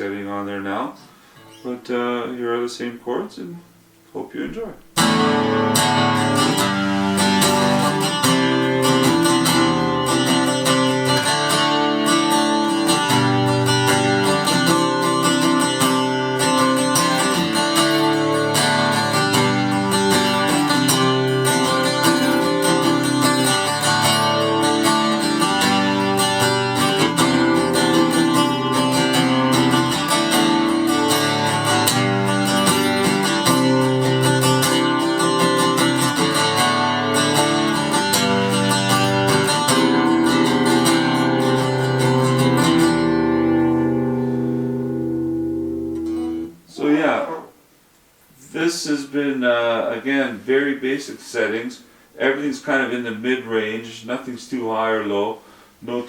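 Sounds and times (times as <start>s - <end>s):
acoustic guitar strumming chords: 0.0s - 47.7s.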